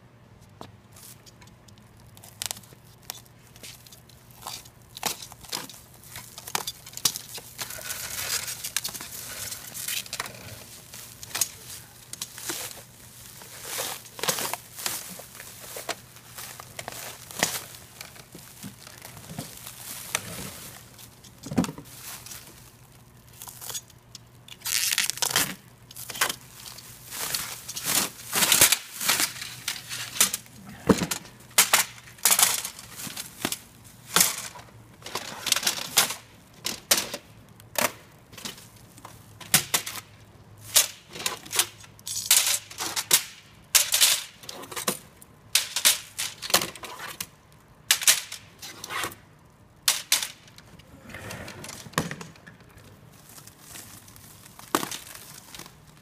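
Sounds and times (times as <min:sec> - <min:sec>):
plastic wrap crinkling and tearing: 0:01.0 - 0:50.7, 0:52.3 - 0:56.0.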